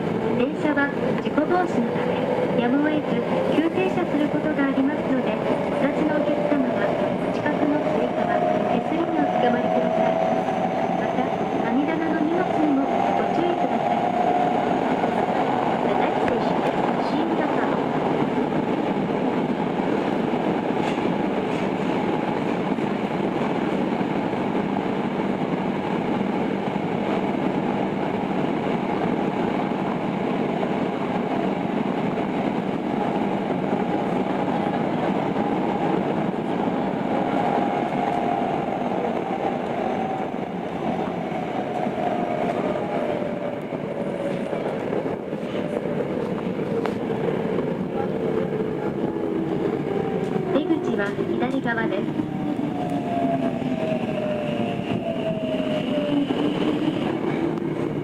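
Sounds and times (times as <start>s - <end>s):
subway wheels rumbling on rail: 0.0s - 58.0s.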